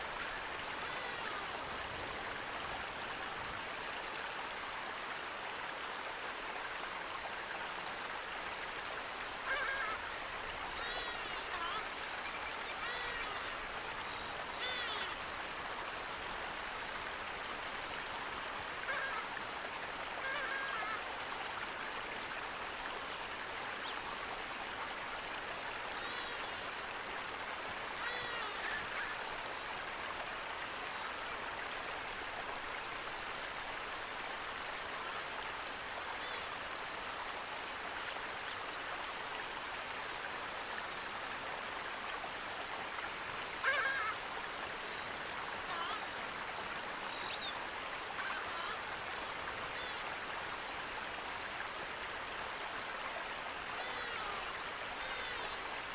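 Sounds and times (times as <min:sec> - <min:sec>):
flowing water rushing: 0:00.0 - 0:55.9.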